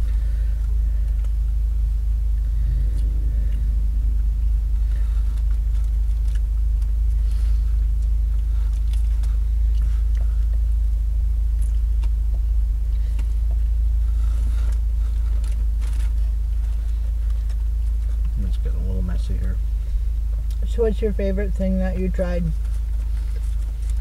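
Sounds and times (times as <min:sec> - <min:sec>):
faint chewing: 0:00.0 - 0:20.7, 0:22.0 - 0:24.0
car cabin rumble: 0:00.0 - 0:24.0.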